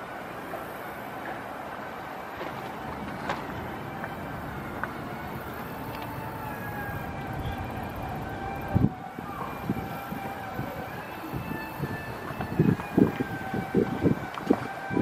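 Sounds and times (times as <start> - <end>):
faint high whine: 0.0 - 15.0
outdoor background noise: 0.0 - 15.0.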